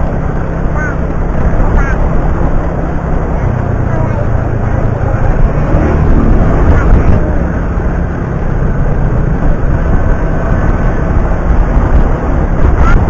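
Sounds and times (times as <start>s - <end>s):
vehicle engine drone: 0.0s - 13.0s
wind rush: 0.0s - 13.0s.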